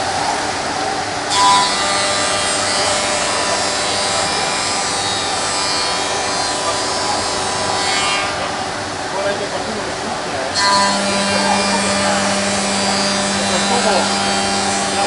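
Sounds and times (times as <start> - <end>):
machine spindle whine: 0.0 - 15.0
cutter machining wood: 1.1 - 15.0.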